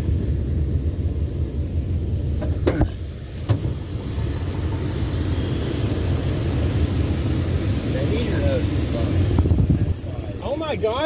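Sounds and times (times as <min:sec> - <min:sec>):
engine idling and knocking: 0:00.0 - 0:11.0.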